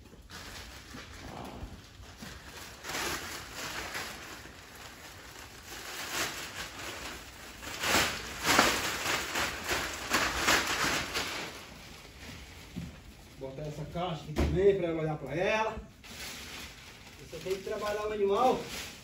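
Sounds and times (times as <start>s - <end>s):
plastic sheet rustling and crackling: 0.0s - 19.0s.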